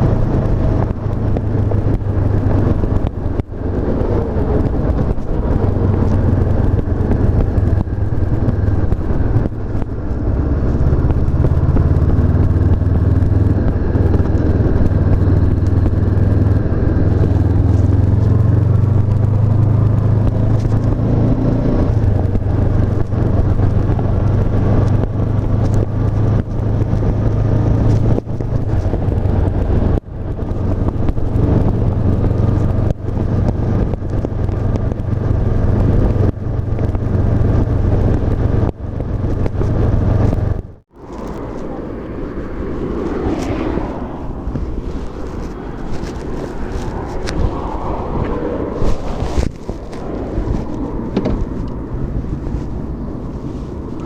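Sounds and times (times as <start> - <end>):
motorcycle engine running: 0.0 - 43.5.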